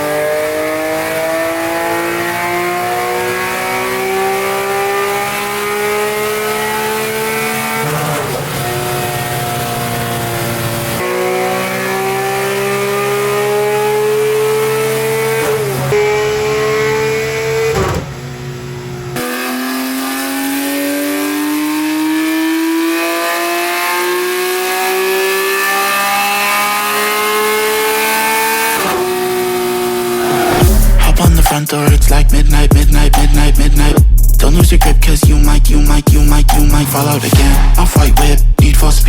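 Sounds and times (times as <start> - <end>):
car engine at full throttle: 0.0 - 34.1.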